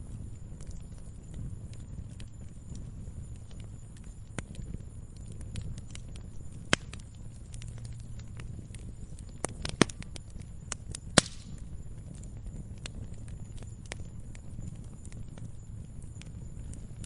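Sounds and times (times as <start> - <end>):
campfire crackling: 0.0 - 17.0
low steady rumble: 0.0 - 17.0.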